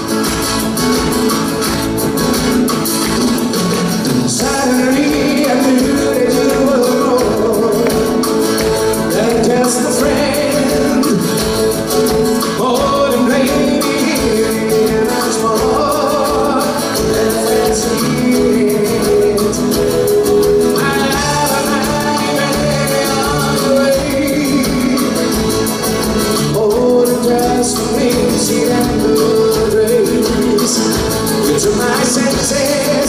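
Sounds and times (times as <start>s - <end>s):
live band playing pop song: 0.0s - 33.0s
person singing lead vocals: 3.6s - 33.0s.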